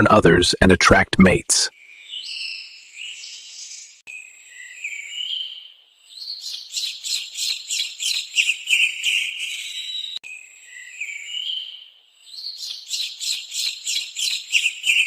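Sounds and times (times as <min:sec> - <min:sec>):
birds whistling gliding notes: 0:01.8 - 0:15.0.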